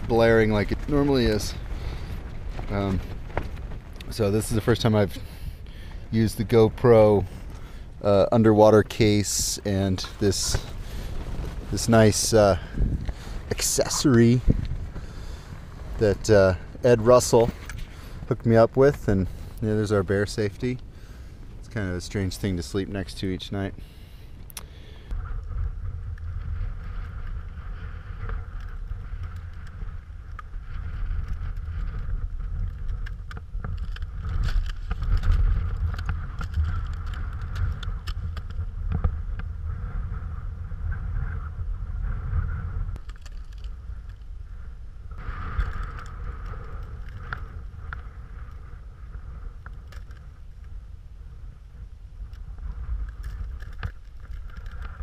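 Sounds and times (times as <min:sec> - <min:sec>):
muffled low rumble: 0:00.0 - 0:55.0.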